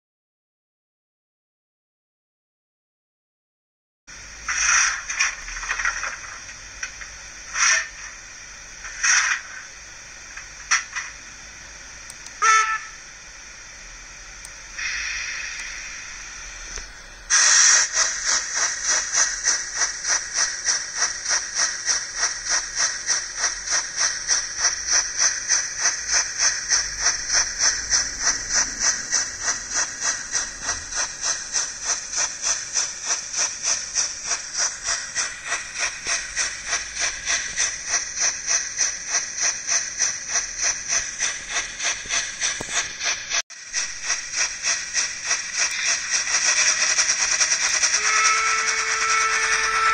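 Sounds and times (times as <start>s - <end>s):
steam locomotive chuffing: 4.1s - 49.9s.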